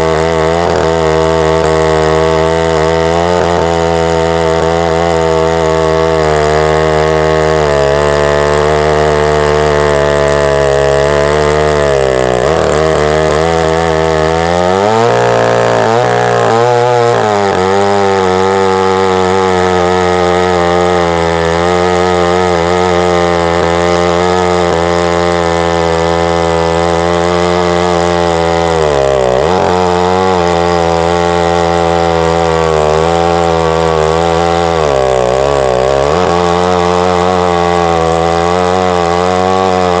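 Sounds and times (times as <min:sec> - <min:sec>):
chainsaw cutting a log: 0:00.0 - 0:40.0.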